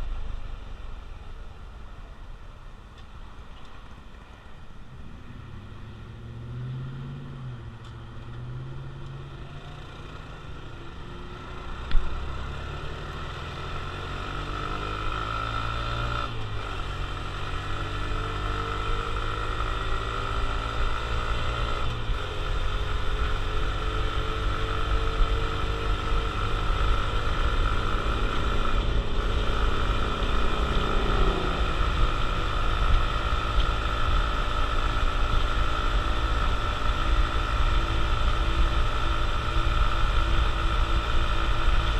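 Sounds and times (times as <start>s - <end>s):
motorcycle engine accelerating: 4.9s - 41.9s.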